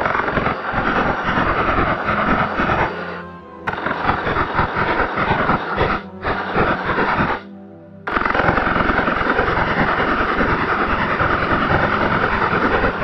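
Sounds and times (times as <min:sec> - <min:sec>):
fast driving background music: 0:00.0 - 0:13.0.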